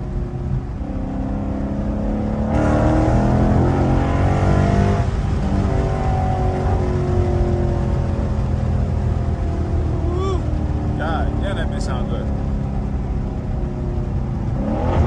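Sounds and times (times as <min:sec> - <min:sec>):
car engine revving from cabin: 0:00.0 - 0:15.0.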